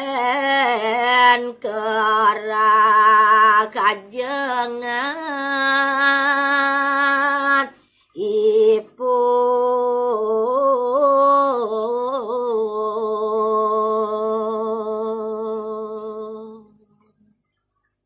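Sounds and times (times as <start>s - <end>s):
woman singing unaccompanied: 0.0s - 16.8s.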